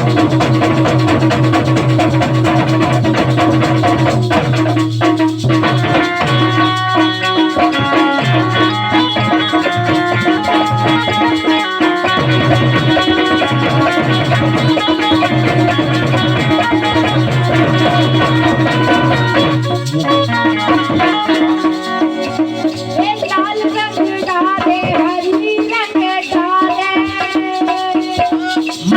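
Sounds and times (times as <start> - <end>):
gliding wavering melody: 0.0 - 25.9
folk drums beating: 0.0 - 28.9
held melodic lines: 0.0 - 28.9.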